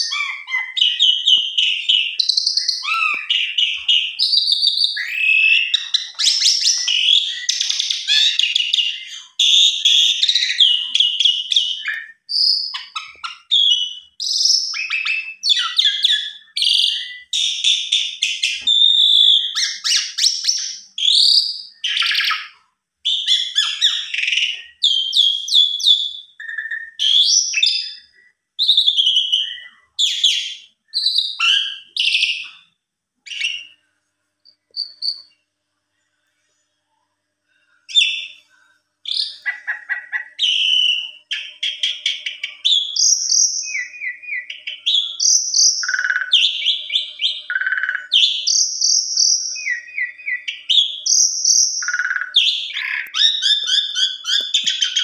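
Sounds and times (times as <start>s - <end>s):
starling singing whistles and chatter: 0.0s - 32.7s, 34.5s - 35.4s, 39.1s - 55.0s.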